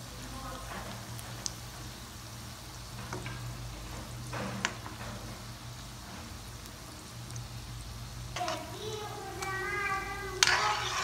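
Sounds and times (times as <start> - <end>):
dough sizzling in hot oil: 0.0 - 11.0.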